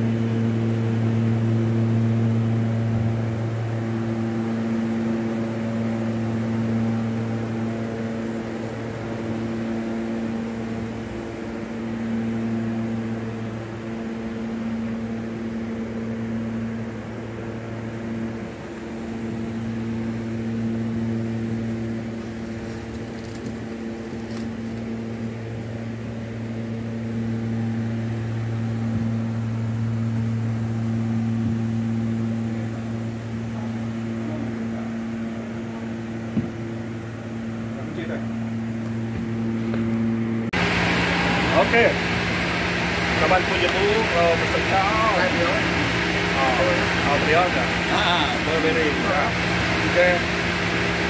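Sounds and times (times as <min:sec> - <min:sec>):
low machinery hum: 0:00.0 - 0:51.0.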